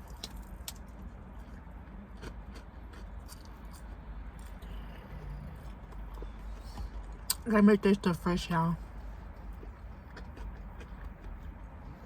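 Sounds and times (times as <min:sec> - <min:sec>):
soft chewing: 0:00.0 - 0:07.4, 0:08.8 - 0:12.0.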